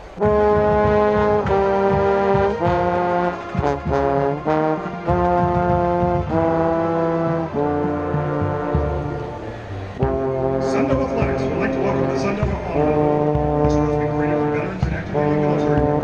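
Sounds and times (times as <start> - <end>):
brass band playing held chords: 0.0 - 16.0
bass trombone: 0.1 - 16.0.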